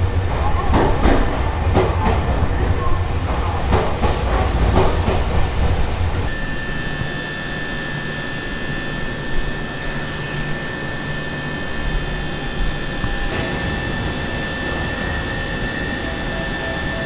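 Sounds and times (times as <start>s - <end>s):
train low rumble: 0.0s - 17.0s
steady high whine: 3.0s - 17.0s.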